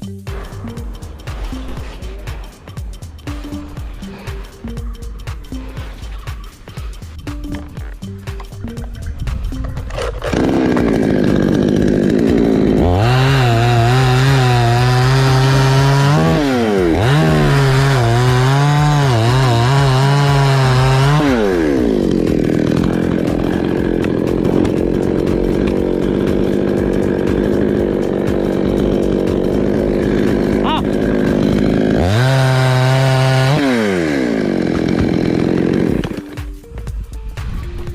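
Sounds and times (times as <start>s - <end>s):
chainsaw cutting wood: 0.3s - 36.9s.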